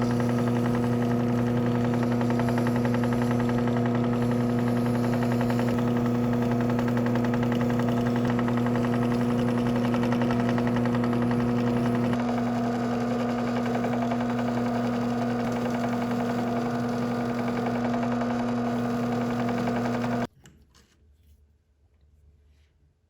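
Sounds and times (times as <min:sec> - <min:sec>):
power tool motor humming: 0:00.0 - 0:20.3.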